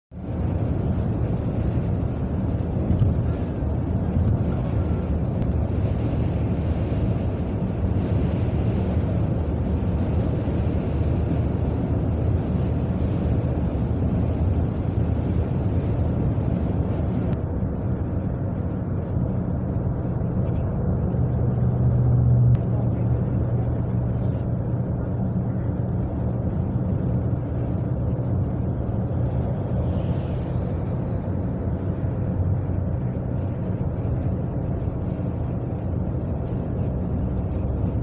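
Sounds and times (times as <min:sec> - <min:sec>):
car cabin road and engine drone: 0:00.1 - 0:38.0.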